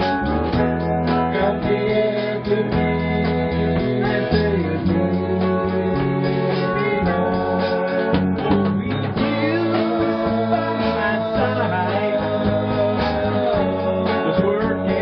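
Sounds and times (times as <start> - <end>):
guitar playing: 0.0 - 15.0
person singing: 0.0 - 15.0.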